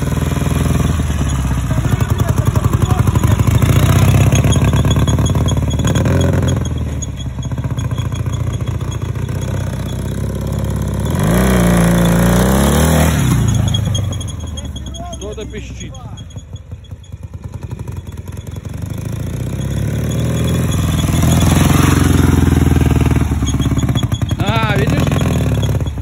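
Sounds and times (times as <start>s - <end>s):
high squeak from sidecar wheel: 0.0s - 26.0s
motorcycle engine running: 0.0s - 26.0s.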